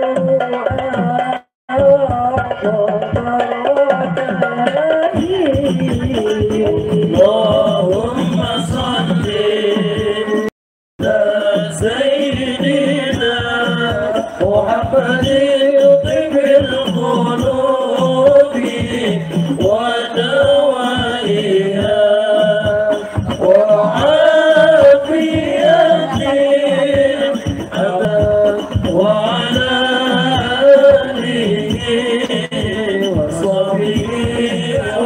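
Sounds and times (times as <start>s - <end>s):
devotional chanted singing: 0.0s - 35.0s
music: 0.0s - 35.0s.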